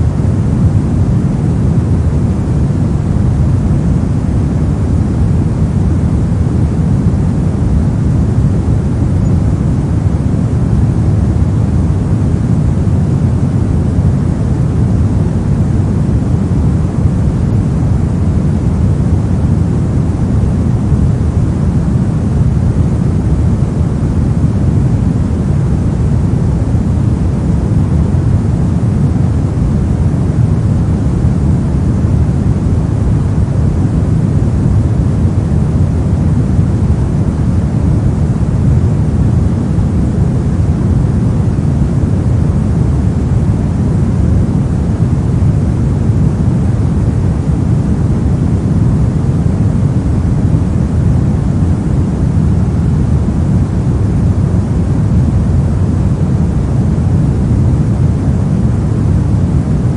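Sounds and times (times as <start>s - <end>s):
pink noise hiss: 0.0s - 59.9s.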